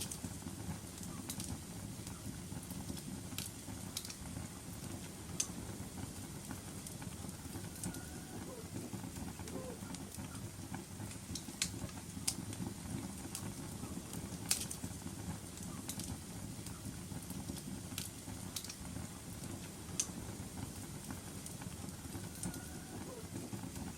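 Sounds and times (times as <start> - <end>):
fireplace fire crackling: 0.0 - 23.9.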